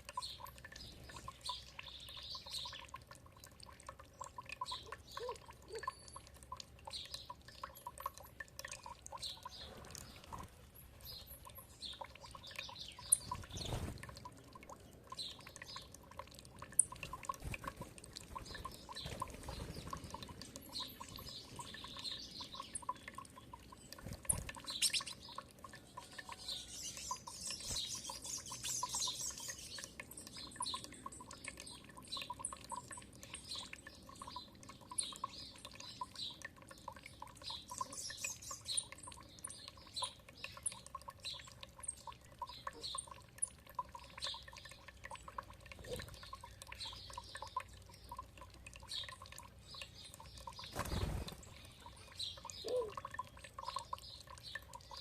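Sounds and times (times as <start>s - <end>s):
songbirds chirping: 0.0s - 55.0s
trickling water: 0.0s - 55.0s.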